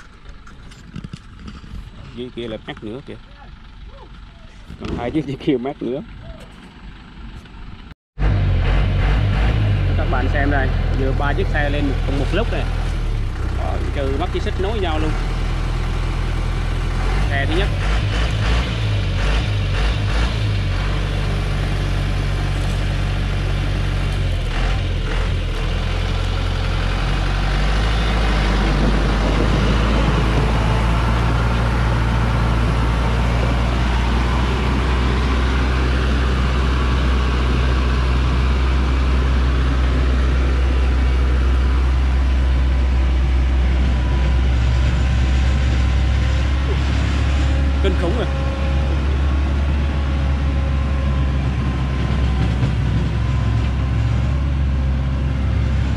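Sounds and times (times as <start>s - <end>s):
truck engine working hard: 0.0s - 55.9s.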